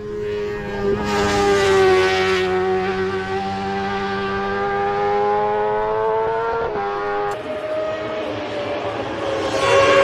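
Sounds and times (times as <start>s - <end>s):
race motorcycle passing: 0.0s - 10.0s.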